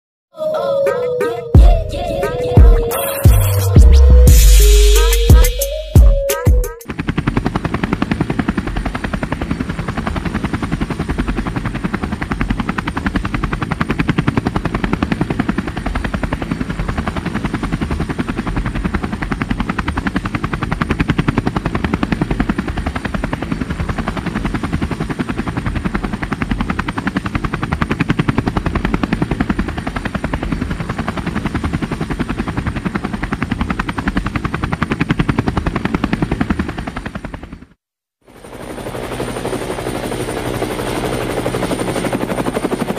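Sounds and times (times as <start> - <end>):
helicopter rotor chopping: 1.0 - 42.9.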